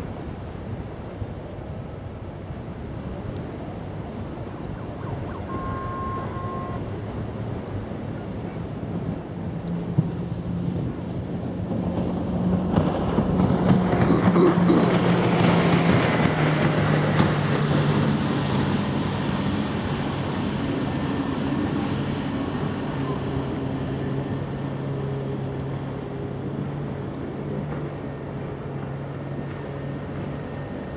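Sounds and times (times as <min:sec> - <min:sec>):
ship engine drone: 0:00.0 - 0:30.9
water rushing: 0:00.0 - 0:30.9
wind: 0:00.0 - 0:30.9.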